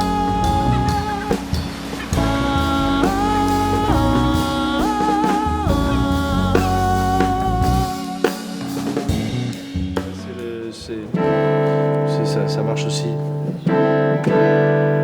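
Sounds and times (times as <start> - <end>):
band playing: 0.0 - 15.0
bass line: 0.0 - 15.0
drums: 0.0 - 15.0
sliding melody notes: 0.0 - 15.0.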